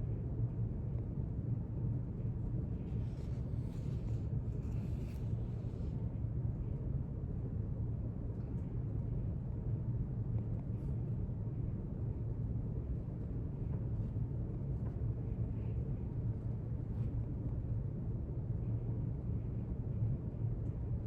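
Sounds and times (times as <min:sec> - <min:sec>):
low room rumble: 0:00.0 - 0:21.0.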